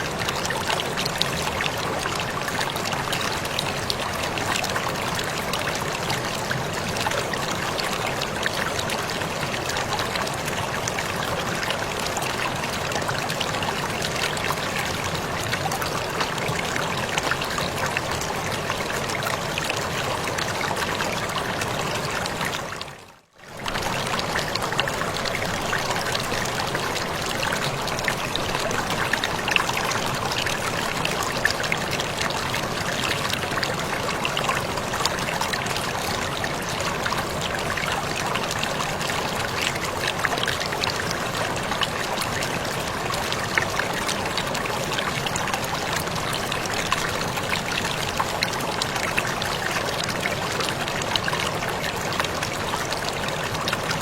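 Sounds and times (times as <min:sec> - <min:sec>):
small waterfall splashing: 0:00.0 - 0:54.0
water drips and splashes: 0:00.0 - 0:54.0.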